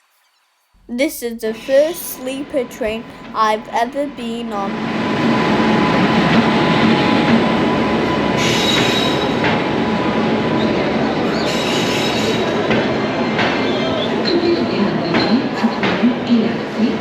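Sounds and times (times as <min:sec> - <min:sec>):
train wheels rumbling on rails: 0:01.5 - 0:16.8.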